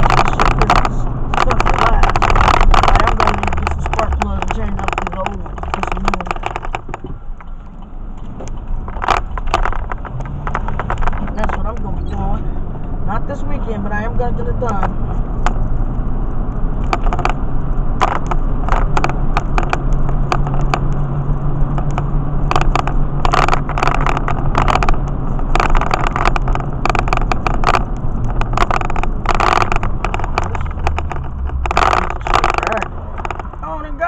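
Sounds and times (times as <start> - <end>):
knocks and rattles: 0.0 - 13.0, 13.7 - 34.0
truck engine and tires drone: 0.0 - 34.0.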